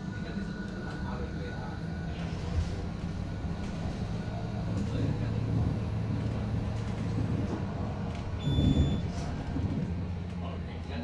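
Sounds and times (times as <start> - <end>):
road and body noise: 2.1 - 11.0.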